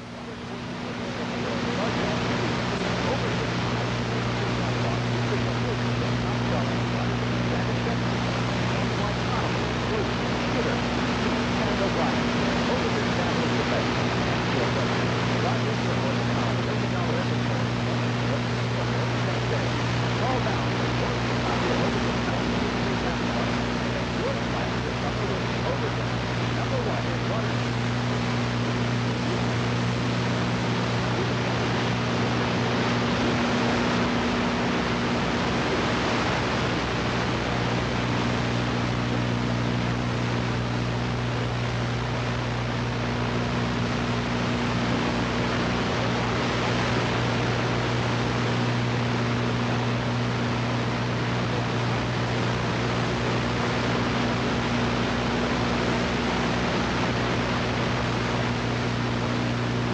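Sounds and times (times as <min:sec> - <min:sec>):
constant low hum: 0:00.0 - 0:59.9
tape static hiss: 0:00.0 - 0:59.9.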